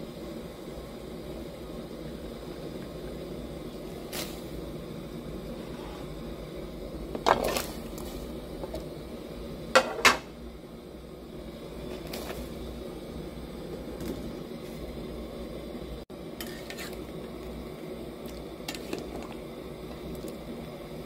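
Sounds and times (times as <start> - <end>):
soup simmering in pot: 0.0 - 21.0.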